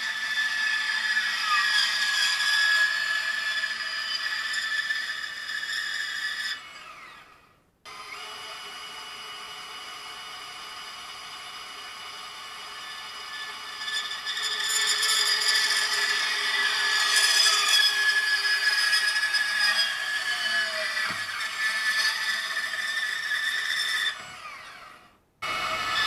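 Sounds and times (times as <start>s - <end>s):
band saw cutting: 0.0s - 7.3s, 7.9s - 26.0s.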